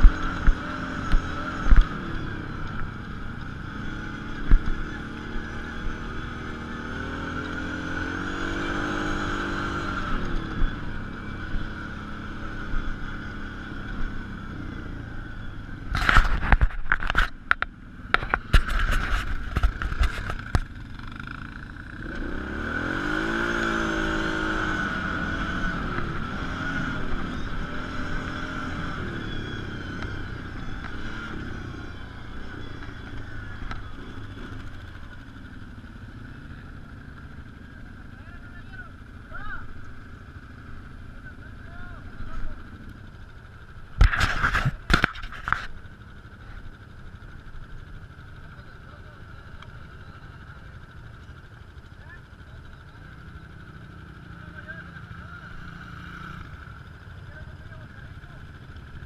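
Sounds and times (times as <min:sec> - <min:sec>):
quad engine revving: 0:00.0 - 0:51.0, 0:51.8 - 0:59.0.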